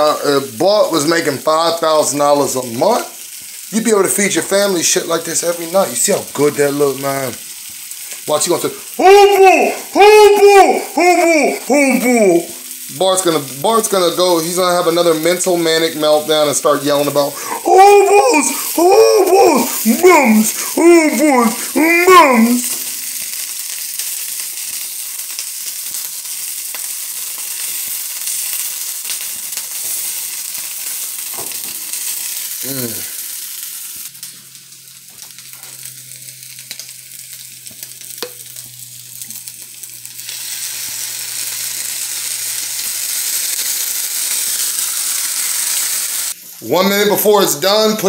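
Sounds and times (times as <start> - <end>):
meat and peppers sizzling in a pan: 0.0 - 48.0.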